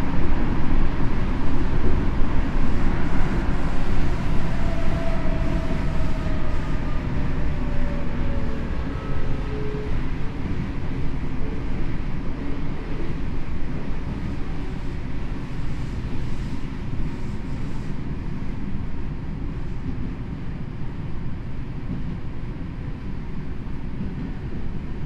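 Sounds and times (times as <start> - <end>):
subway car wheels rumbling on rail: 0.0 - 25.0.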